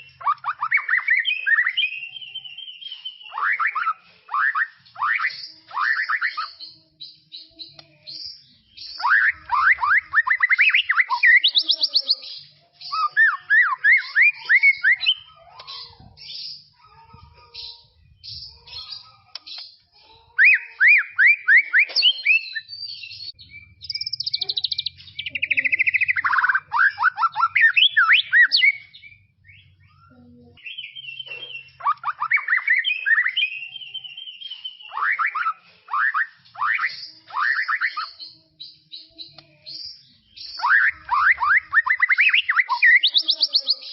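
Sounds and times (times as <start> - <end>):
bird singing: 0.0 - 43.9.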